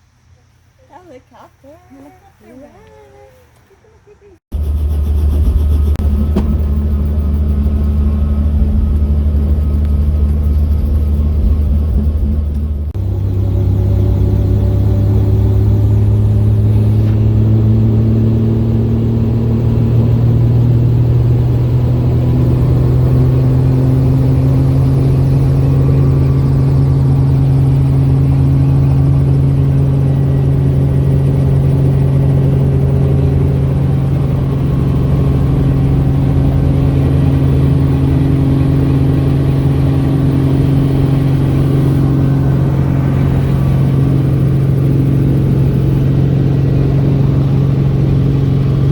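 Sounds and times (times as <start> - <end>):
helicopter engine and rotor drone: 4.6 - 48.9.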